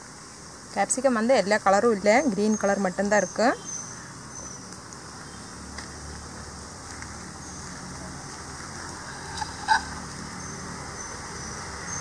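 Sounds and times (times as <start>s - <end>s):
insects chirping: 0.0s - 12.0s
steady hiss: 0.0s - 12.0s.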